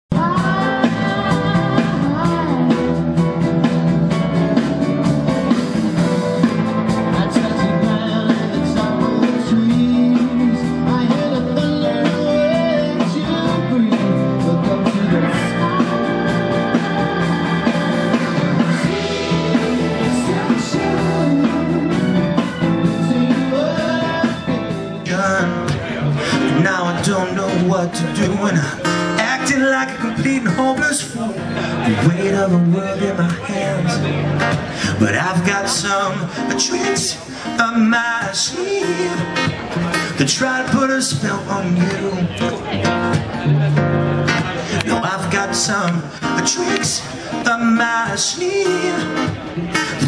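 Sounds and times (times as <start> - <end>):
man singing: 0.1 - 5.7, 6.4 - 50.0
strummed acoustic guitar: 2.5 - 50.0.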